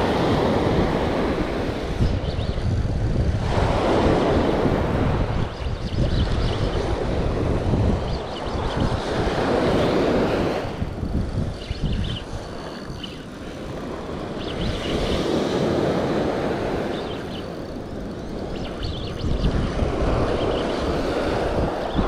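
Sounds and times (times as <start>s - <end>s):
small waves washing on sand: 0.0s - 5.6s, 6.5s - 11.5s, 12.2s - 18.6s, 19.3s - 22.0s
wind buffeting microphone: 0.0s - 22.0s.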